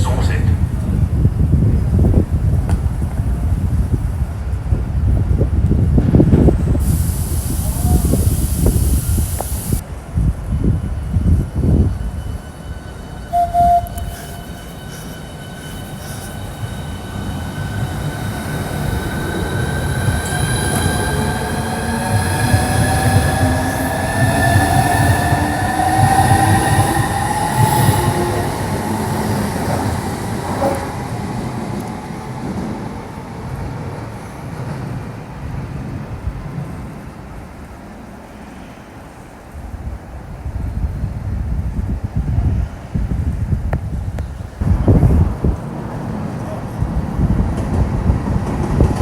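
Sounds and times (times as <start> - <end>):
electric train rumbling past: 0.0 - 49.0.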